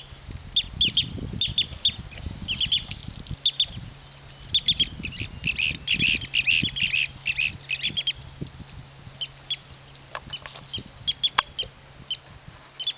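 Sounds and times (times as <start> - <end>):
birds calling harshly: 0.0 - 12.9.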